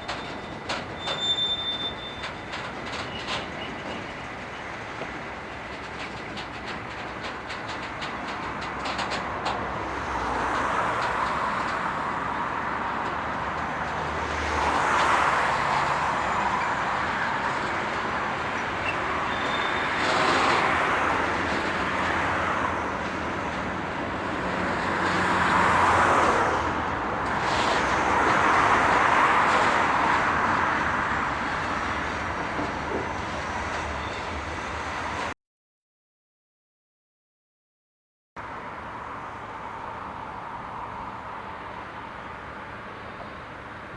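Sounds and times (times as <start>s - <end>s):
passing vehicles rumble: 2.3s - 35.4s, 38.4s - 43.9s.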